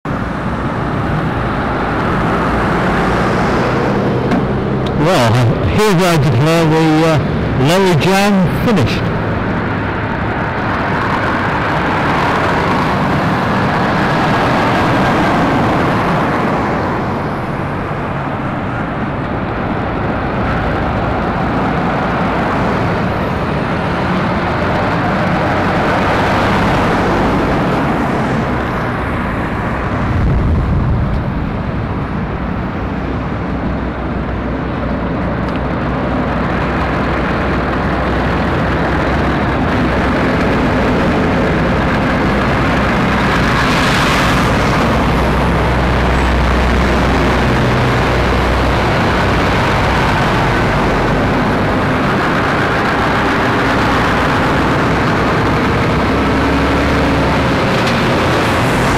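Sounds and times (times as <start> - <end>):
lorry diesel engines rumbling: 0.0 - 58.9.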